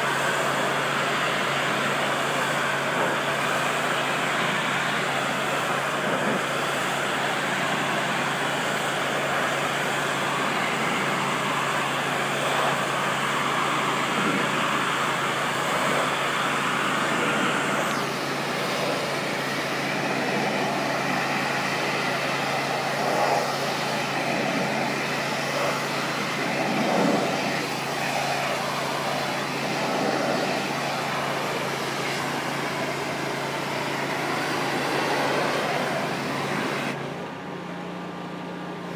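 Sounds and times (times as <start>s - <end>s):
pressure washer spraying: 0.0s - 37.0s.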